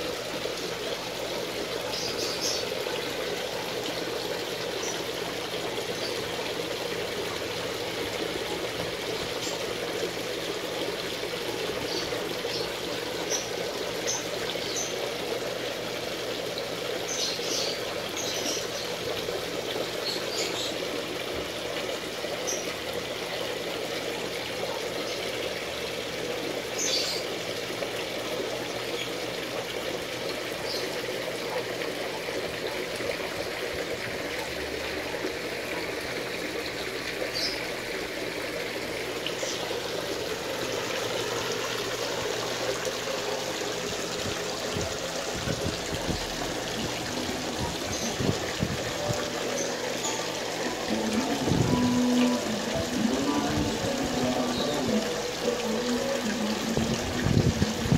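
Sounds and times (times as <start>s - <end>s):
water pouring into pond: 0.0s - 57.9s.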